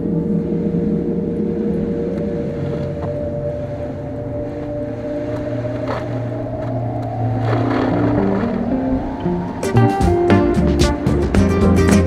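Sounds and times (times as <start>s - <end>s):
car engine and tyre noise: 0.0s - 11.4s.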